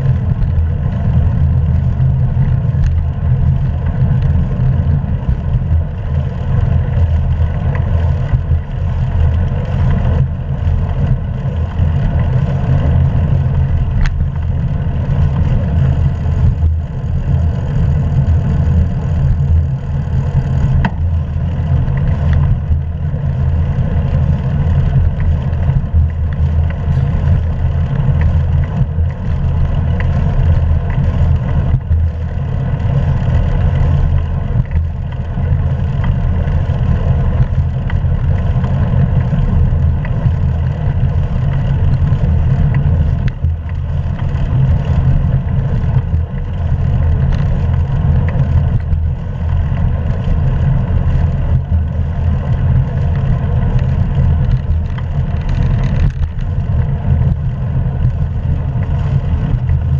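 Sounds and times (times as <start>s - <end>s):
bicycle tyres hissing on road: 0.0s - 54.2s.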